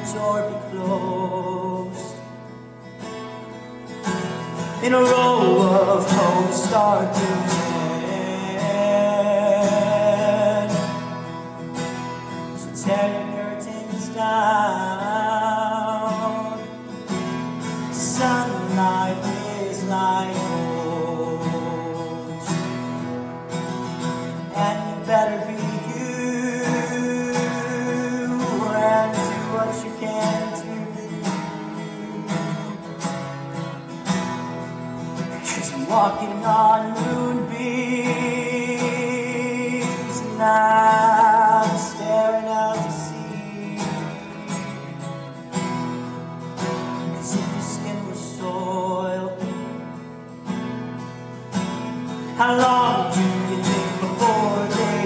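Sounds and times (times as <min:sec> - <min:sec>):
man singing slow song: 0:00.0 - 0:02.5, 0:04.6 - 0:11.9, 0:12.5 - 0:22.9, 0:24.4 - 0:33.0, 0:35.2 - 0:45.3, 0:47.0 - 0:49.9, 0:52.1 - 0:55.0
acoustic guitar strumming: 0:00.0 - 0:55.0.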